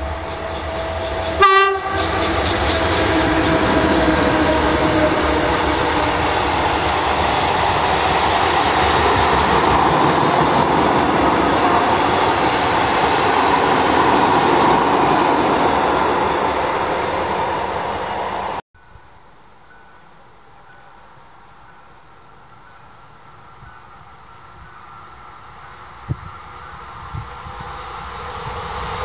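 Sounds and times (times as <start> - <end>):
freight train rolling past: 0.0 - 18.6, 19.7 - 29.0.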